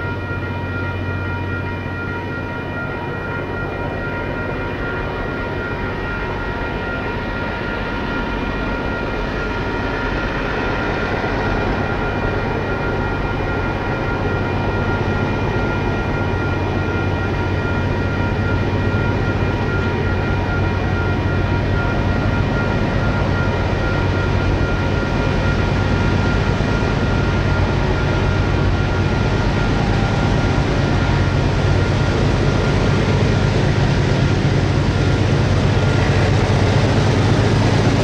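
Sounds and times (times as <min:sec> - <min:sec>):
diesel locomotives working hard: 0:00.0 - 0:38.0.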